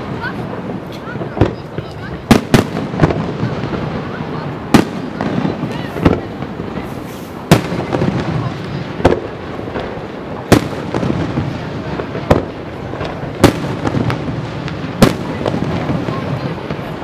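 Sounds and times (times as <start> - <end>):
small firework pops: 0.3 - 17.0
firework shells bursting: 0.5 - 17.0.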